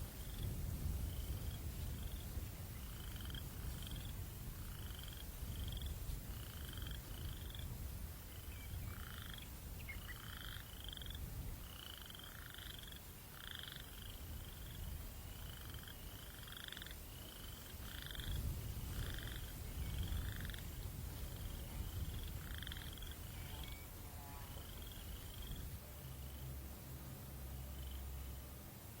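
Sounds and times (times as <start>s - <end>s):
low breeze rumble: 0.0s - 29.0s
animals calling at night: 0.2s - 26.7s, 27.5s - 28.4s.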